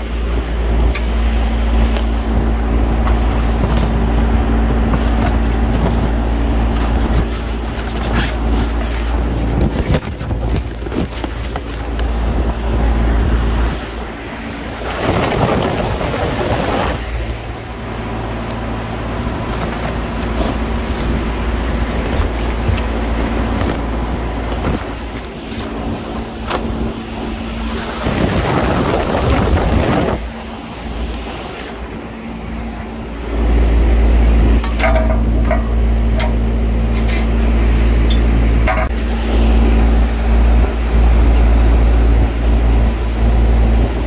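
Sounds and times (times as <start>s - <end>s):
condenser fans humming: 0.0s - 44.0s
wind rumble on microphone: 0.0s - 44.0s.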